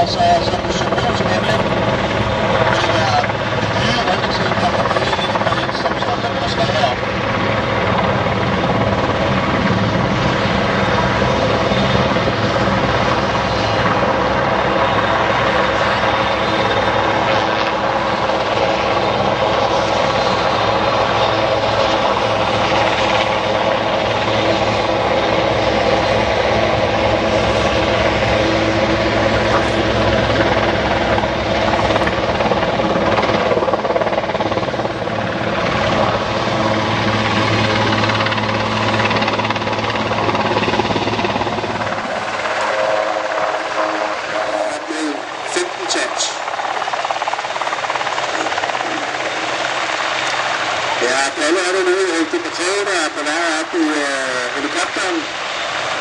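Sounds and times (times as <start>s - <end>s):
helicopter rotor and turbine drone: 0.0s - 56.0s.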